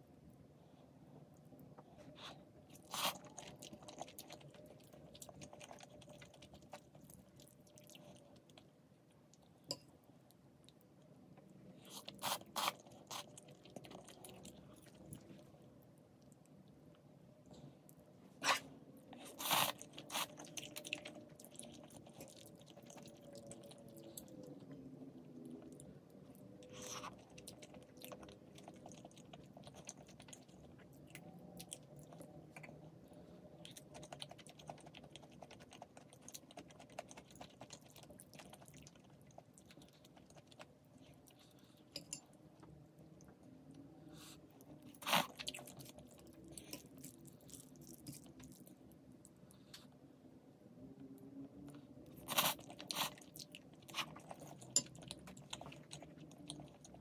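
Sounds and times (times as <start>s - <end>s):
person chewing and crunching food: 1.4s - 8.7s, 11.4s - 15.5s, 18.4s - 42.0s, 44.2s - 49.9s, 51.5s - 57.0s.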